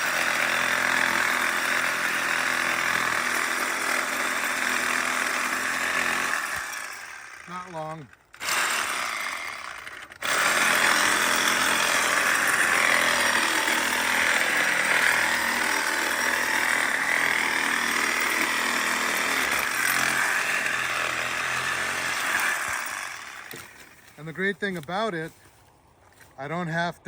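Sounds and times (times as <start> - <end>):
reciprocating saw cutting wood: 0.0 - 24.0.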